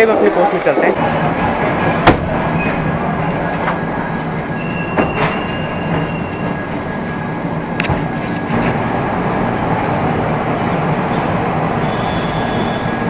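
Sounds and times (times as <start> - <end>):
train rumbling on rails: 0.0 - 13.0
wheels clicking on track: 1.0 - 13.0.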